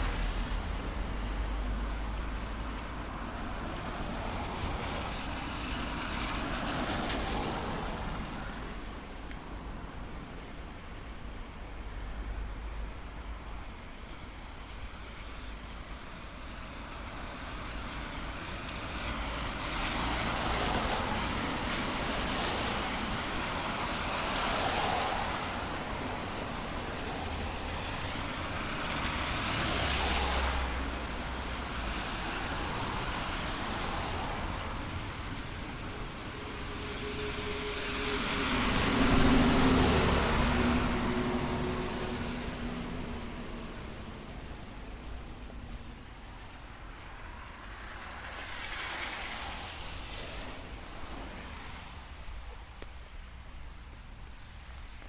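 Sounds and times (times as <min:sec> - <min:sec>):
distant traffic: 0:00.0 - 0:55.0
rain: 0:00.0 - 0:55.0
tyres hissing on wet asphalt: 0:00.0 - 0:55.0.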